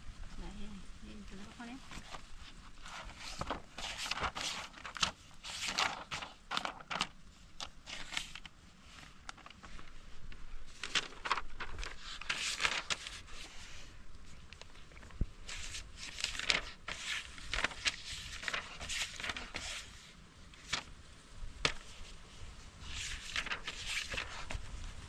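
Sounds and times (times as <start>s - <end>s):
paper pages rustling: 1.4s - 21.0s, 21.6s - 25.0s.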